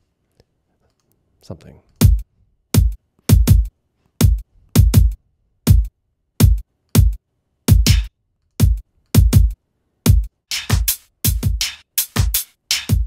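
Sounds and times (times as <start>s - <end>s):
drum machine kick drum: 2.0s - 13.0s.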